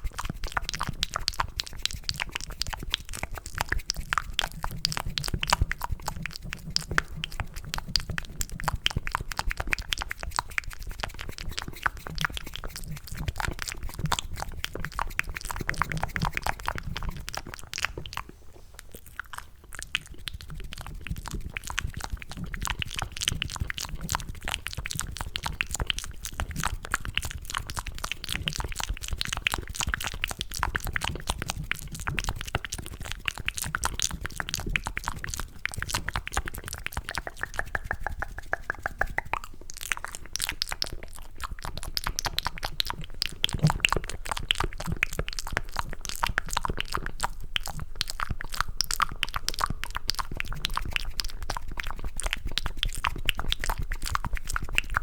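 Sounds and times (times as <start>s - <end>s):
wet mouth clicks and smacks: 0.0s - 55.0s.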